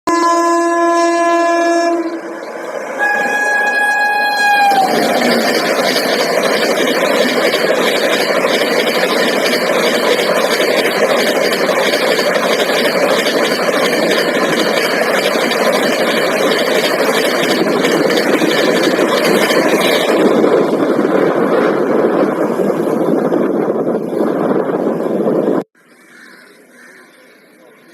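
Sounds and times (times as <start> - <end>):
express train passing: 0.1 - 25.7.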